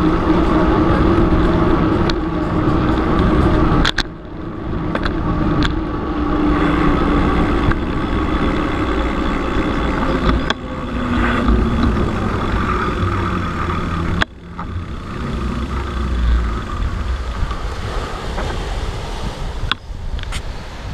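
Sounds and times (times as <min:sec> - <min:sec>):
bicycle tyres rolling on asphalt: 0:00.0 - 0:20.9
wind buffeting microphone: 0:00.0 - 0:20.9.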